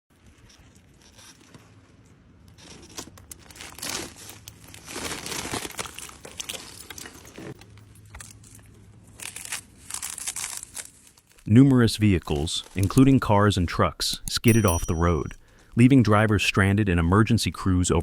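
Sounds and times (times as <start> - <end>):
crackling and crunching: 0.1 - 15.7.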